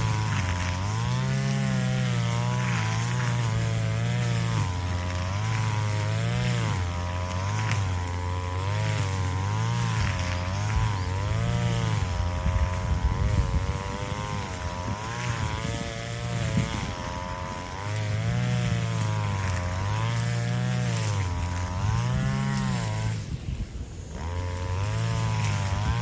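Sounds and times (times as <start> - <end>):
brush cutter engine running: 0.0 - 26.0.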